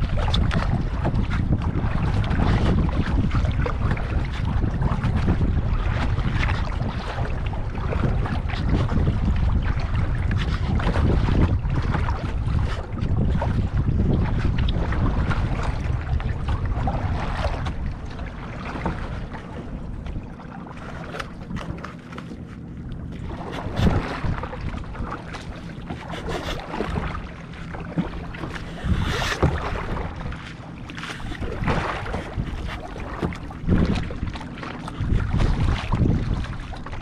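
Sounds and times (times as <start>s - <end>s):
paddle splashes: 0.0s - 37.0s
water slapping against hull: 0.0s - 37.0s
wind buffeting microphone: 0.0s - 37.0s.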